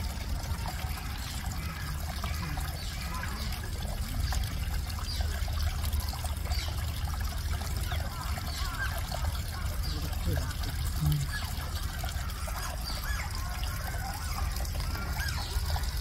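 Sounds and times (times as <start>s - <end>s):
faint voices: 0.0s - 16.0s
water trickling: 0.0s - 16.0s.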